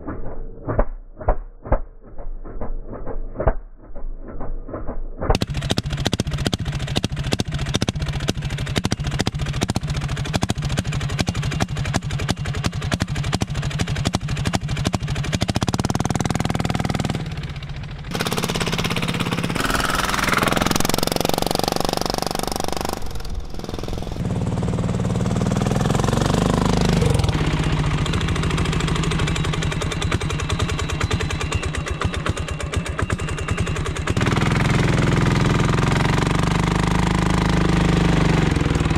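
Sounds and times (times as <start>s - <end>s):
small diesel engine knocking: 5.4s - 38.9s.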